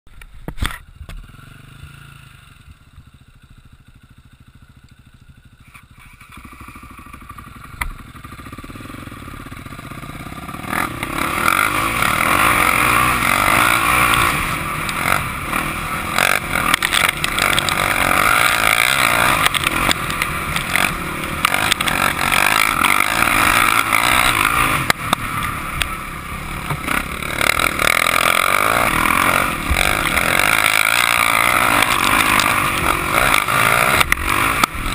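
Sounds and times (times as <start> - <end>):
motorbike engine revving: 5.4 - 34.9.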